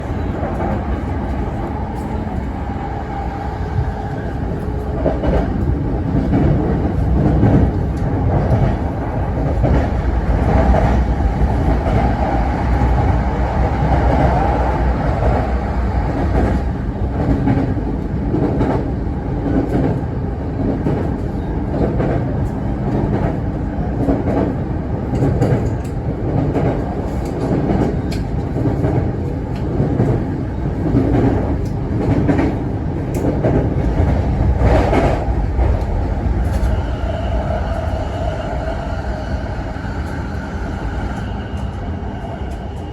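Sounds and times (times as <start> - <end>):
train wheels rumbling: 0.0 - 42.9.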